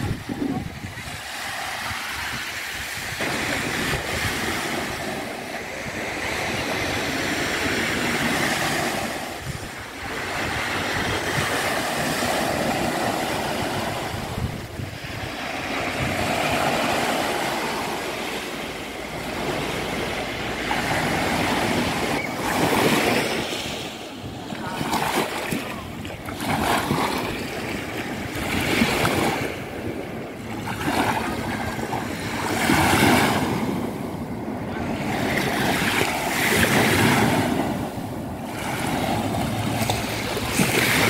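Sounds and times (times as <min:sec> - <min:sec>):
waves washing onto beach: 0:00.0 - 0:41.0
wind on microphone: 0:00.0 - 0:41.0.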